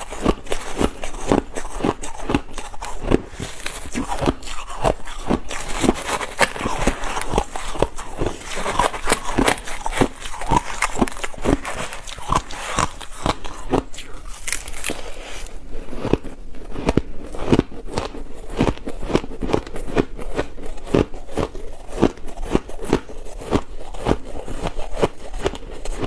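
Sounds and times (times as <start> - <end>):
ice crunching in mouth: 0.0 - 26.0.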